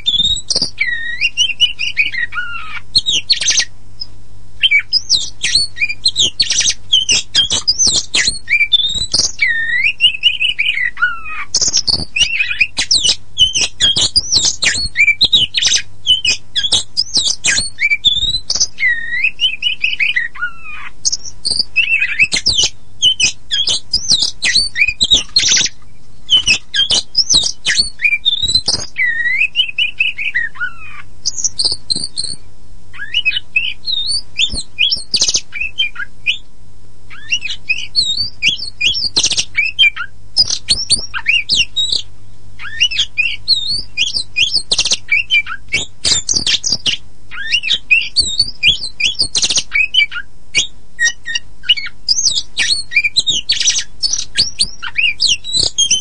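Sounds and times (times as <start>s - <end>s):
bird singing whistles and chatter: 0.0s - 3.7s, 4.6s - 32.4s, 33.0s - 36.4s, 37.1s - 56.0s
faint low hum: 0.0s - 56.0s.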